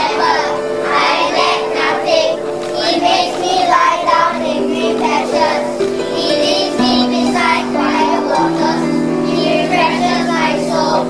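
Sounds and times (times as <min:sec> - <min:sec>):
children singing together: 0:00.0 - 0:11.0
recorded backing music: 0:00.0 - 0:11.0.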